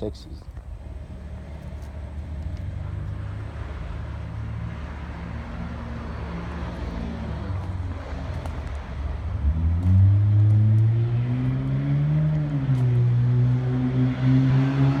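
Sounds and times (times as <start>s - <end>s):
vehicle engine revving: 0.8s - 15.0s.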